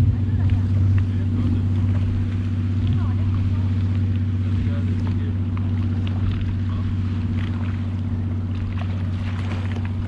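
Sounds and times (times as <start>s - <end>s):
jet ski engine humming: 0.0s - 10.0s
water splashing against hull: 0.0s - 10.0s.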